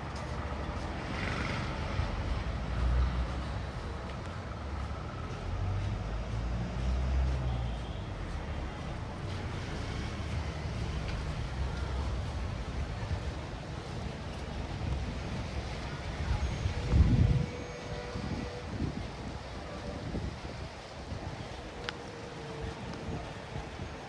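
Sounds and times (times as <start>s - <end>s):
vehicles rumbling past: 0.0s - 24.0s.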